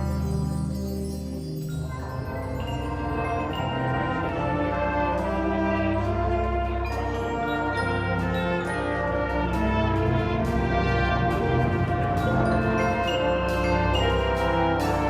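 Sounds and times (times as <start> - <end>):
percussion strikes: 0.0 - 15.0
brass section playing chords: 2.9 - 15.0.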